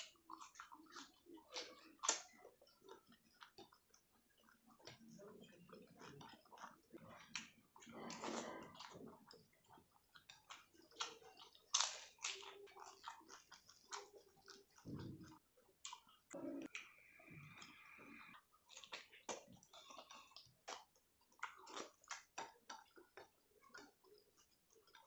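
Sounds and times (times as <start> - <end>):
lip smacks: 0.0 - 25.0
wet chewing: 0.0 - 25.0.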